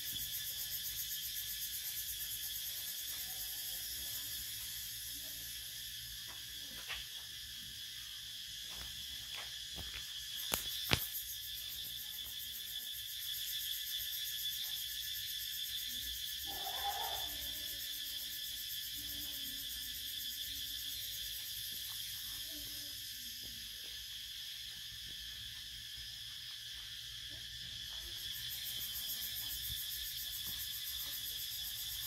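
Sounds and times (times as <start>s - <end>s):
insect chorus: 0.0s - 32.0s.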